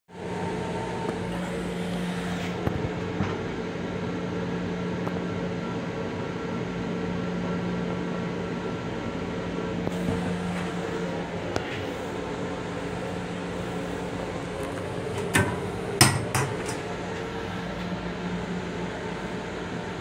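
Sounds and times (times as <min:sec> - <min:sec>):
railcar hum and rumble: 0:00.1 - 0:20.0.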